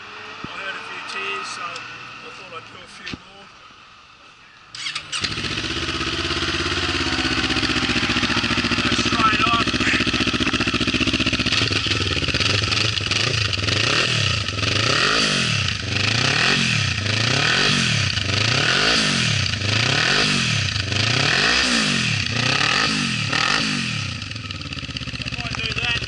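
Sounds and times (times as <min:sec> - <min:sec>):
motorcycle engine revving: 0:04.7 - 0:26.0.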